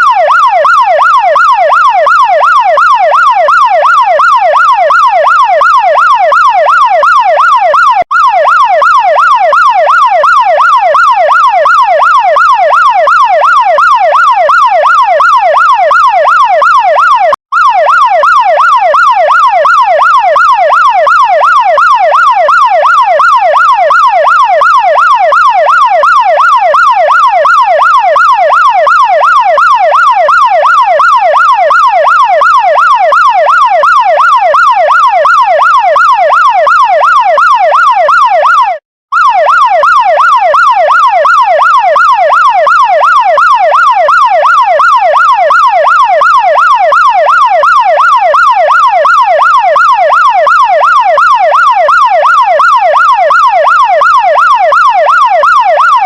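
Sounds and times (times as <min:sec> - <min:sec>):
fire truck siren sweeps: 0:00.0 - 0:56.0.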